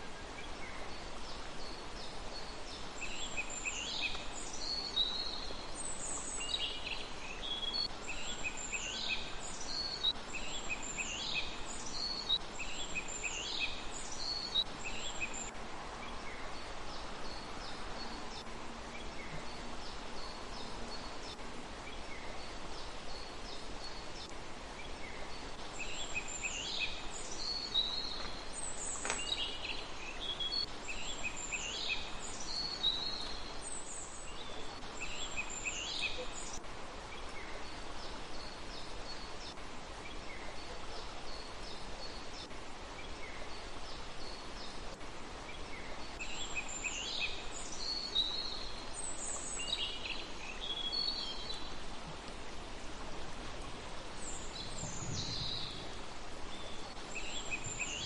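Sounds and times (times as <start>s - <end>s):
steady background hiss: 0.0s - 58.0s
small birds singing and chirping: 0.1s - 52.3s, 54.1s - 58.0s.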